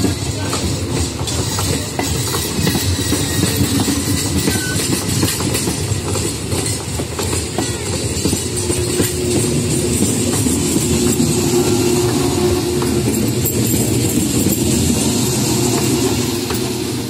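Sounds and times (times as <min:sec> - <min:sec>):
clickety-clack over rail joints: 0:00.0 - 0:17.0
train wheels rolling on rails: 0:00.0 - 0:17.0.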